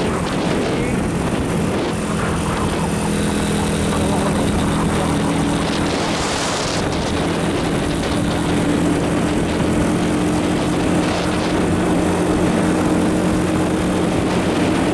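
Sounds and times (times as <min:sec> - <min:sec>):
tyre and wind rush: 0:00.0 - 0:14.9
vehicle engine drone: 0:00.0 - 0:14.9.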